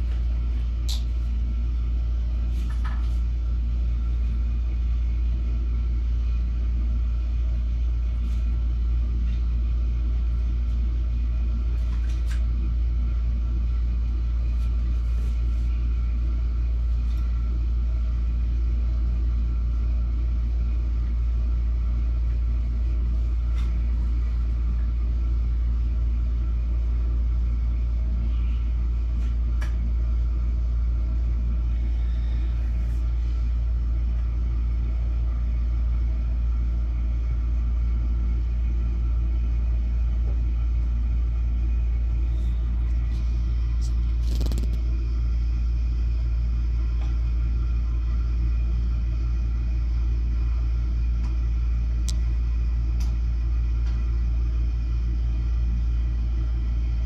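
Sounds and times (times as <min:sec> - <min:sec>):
low rumbling hum: 0:00.0 - 0:57.0.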